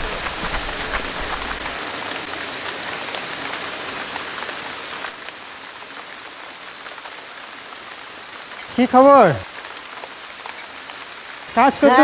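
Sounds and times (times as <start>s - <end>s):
rain drops ticking on surfaces: 0.0s - 12.0s.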